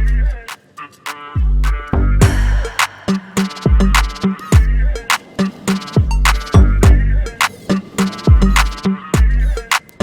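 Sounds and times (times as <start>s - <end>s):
hip-hop beat: 0.0s - 10.0s.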